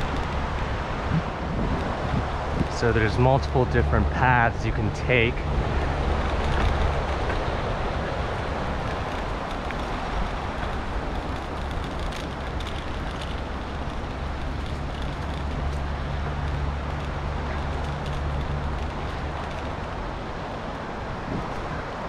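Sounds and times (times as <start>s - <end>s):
bicycle clicks and rattles: 0.0s - 22.0s
bicycle tyres rolling on dirt: 0.0s - 22.0s
wind rumbling on microphone: 0.0s - 22.0s.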